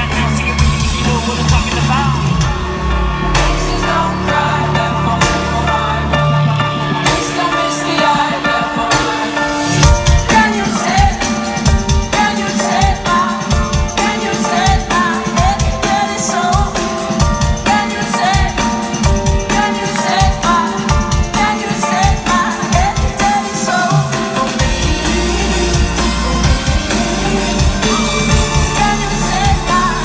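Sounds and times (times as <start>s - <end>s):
live pop-rock band: 0.0s - 30.0s
person singing: 0.0s - 30.0s.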